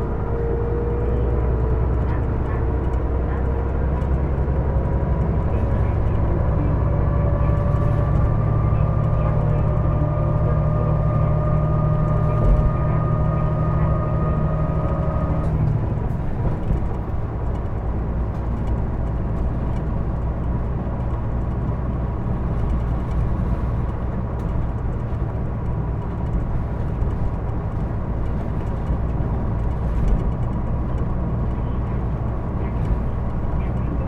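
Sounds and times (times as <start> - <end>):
bus diesel engine rumble: 0.0 - 34.0
road noise: 0.0 - 34.0.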